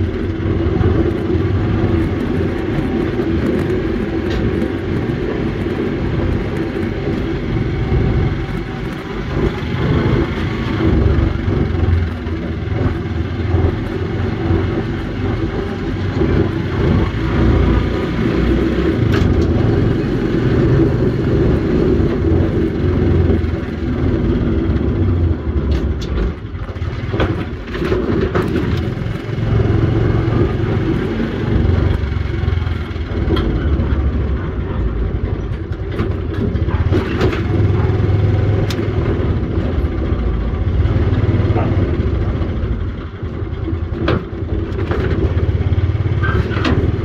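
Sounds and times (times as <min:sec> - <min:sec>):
vehicle engine humming: 0:00.0 - 0:47.0.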